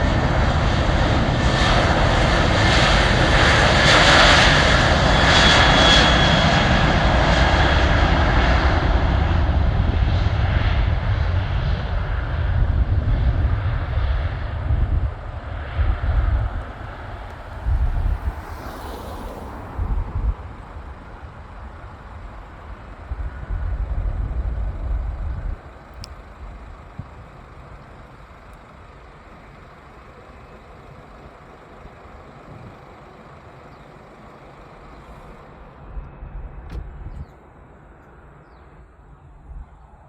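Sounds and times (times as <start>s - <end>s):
airplane engine roaring: 0.0s - 40.0s.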